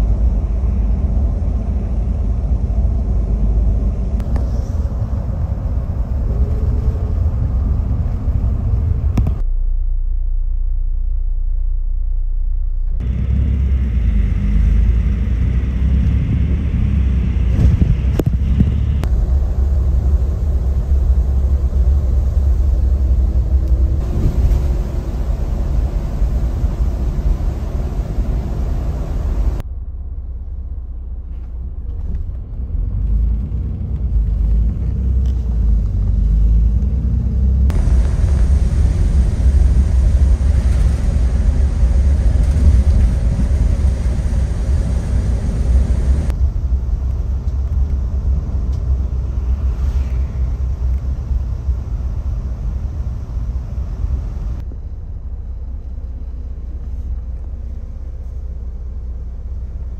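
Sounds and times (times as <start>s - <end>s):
bus engine and tyres rumbling: 0.0s - 59.9s.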